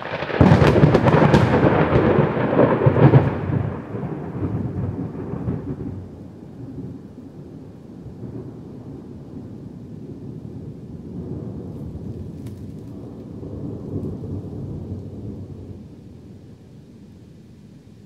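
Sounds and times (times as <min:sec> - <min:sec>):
thunder crack and rumble: 0:00.0 - 0:16.5
rain: 0:00.0 - 0:18.0.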